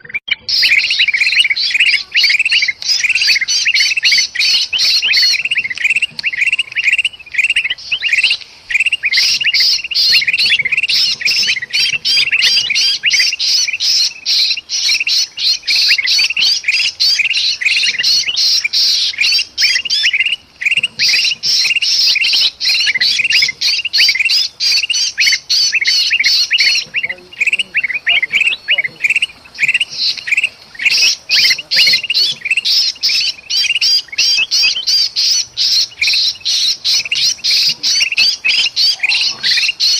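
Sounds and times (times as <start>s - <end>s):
bird distress calls: 0.0s - 39.9s
birds chattering alarm chirps: 0.0s - 39.9s.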